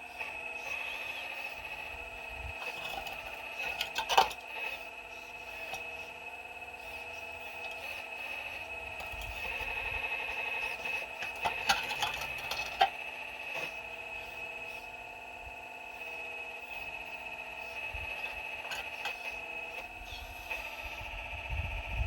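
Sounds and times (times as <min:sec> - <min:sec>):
excavator high-pitched whine: 0:00.0 - 0:22.0.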